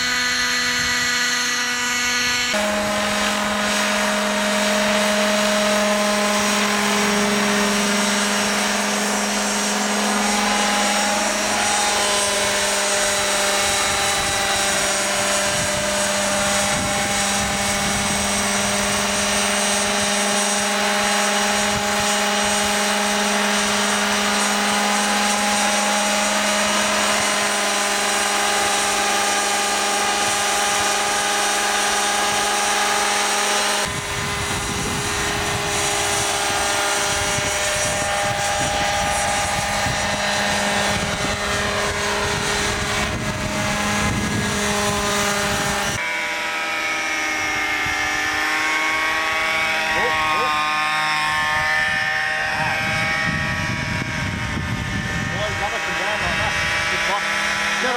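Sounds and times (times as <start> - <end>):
model helicopter droning whine: 0.0 - 57.9.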